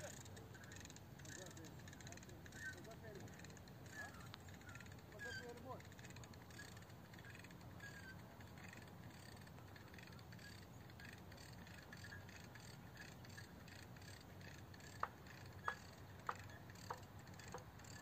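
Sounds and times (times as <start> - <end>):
bird calling: 0.0 - 18.0.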